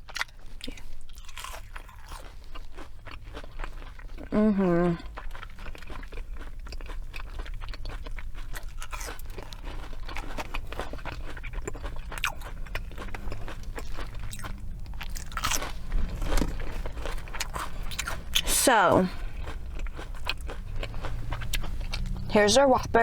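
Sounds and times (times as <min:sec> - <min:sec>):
person chewing crispy food: 0:00.0 - 0:22.4.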